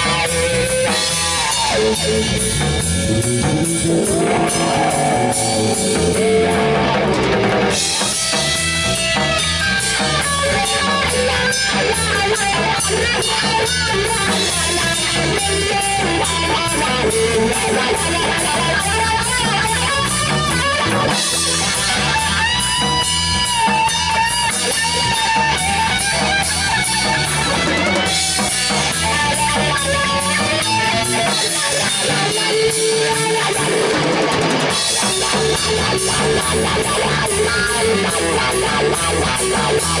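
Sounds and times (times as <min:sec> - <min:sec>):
drum kit beat: 0:00.0 - 0:40.0
electric bass: 0:00.0 - 0:40.0
electric guitar: 0:00.0 - 0:40.0.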